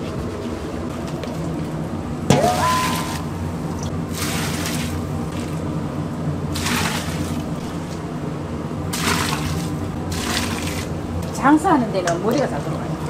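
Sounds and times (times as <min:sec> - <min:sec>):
steady low hum: 0:01.4 - 0:13.0.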